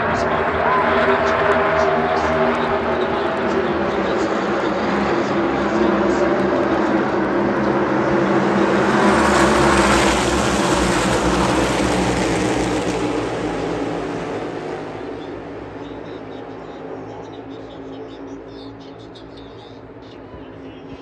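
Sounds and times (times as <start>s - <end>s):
race cars racing past: 0.0s - 21.0s.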